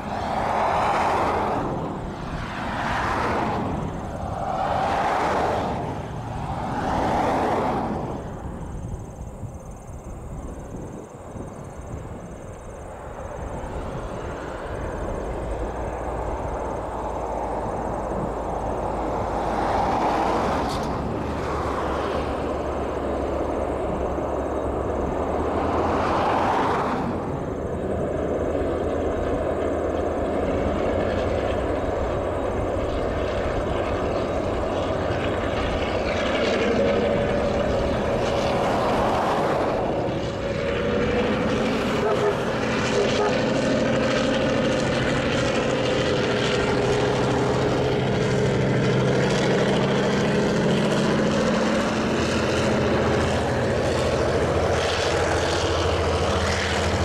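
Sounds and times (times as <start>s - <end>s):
locomotive engine rumbling: 0.0s - 57.0s
train rushing: 0.0s - 57.0s.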